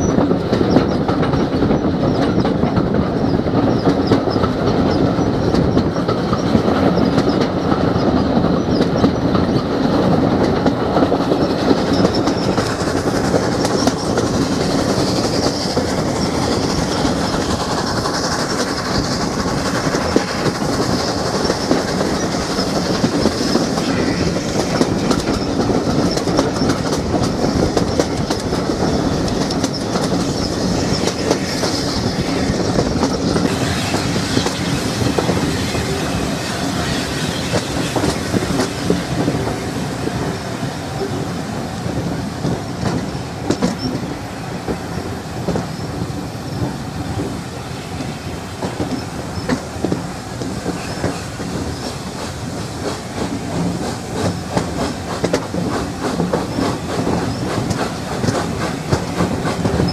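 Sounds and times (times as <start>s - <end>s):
train rumble: 0.0s - 59.9s
train wheels clicking: 0.0s - 59.9s.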